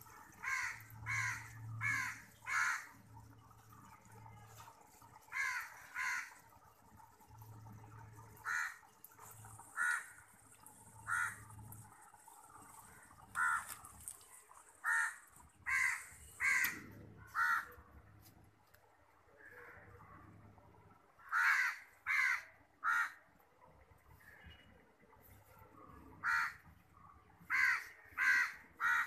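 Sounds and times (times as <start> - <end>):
faint water trickling: 0.0 - 29.0.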